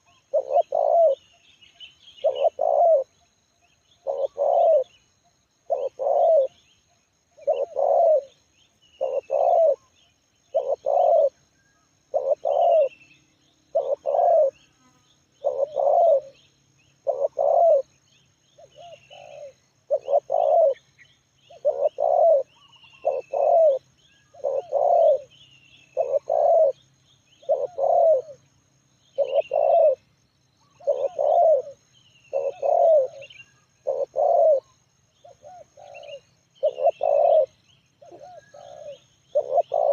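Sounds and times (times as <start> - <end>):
dove cooing: 0.0 - 1.4, 2.2 - 3.2, 4.0 - 4.9, 5.6 - 6.6, 7.4 - 8.4, 9.0 - 13.0, 13.7 - 14.7, 15.3 - 16.4, 17.0 - 17.9, 18.6 - 20.9, 21.5 - 30.0, 30.6 - 39.9
small birds chirping: 0.0 - 39.9.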